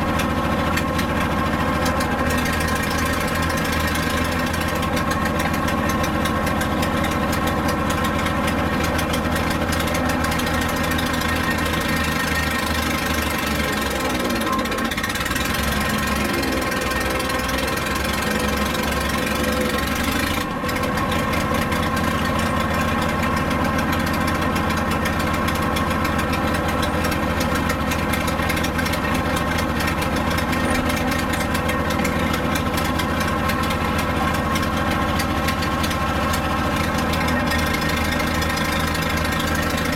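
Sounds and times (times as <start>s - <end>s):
loud gasoline engine running: 0.0s - 39.9s.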